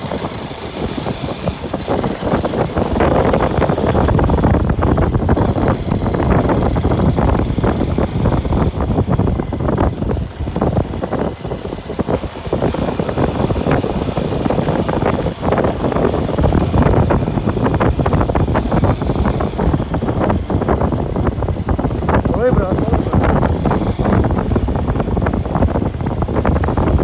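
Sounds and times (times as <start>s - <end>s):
moving vehicle noise: 0.0s - 27.0s
wind buffeting microphone: 0.0s - 27.0s.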